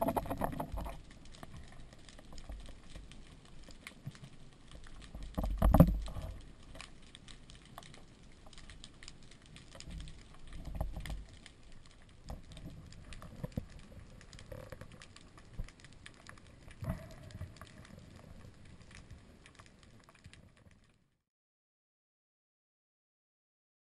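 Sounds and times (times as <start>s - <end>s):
underwater crackle of clicks: 0.0s - 21.0s.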